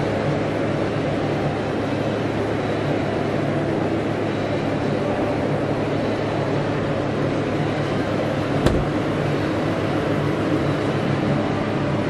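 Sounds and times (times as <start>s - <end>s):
shop background hum and hiss: 0.0s - 12.0s.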